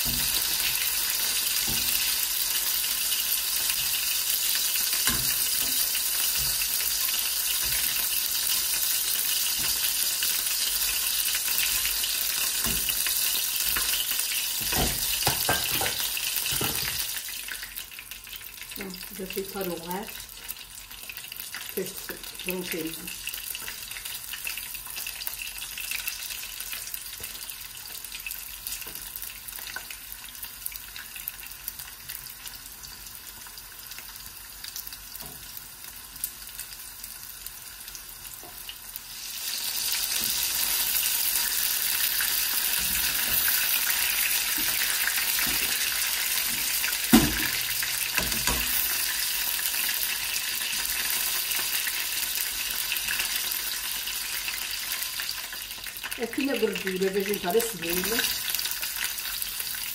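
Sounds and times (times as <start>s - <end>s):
meat sizzling in oil: 0.0s - 59.9s.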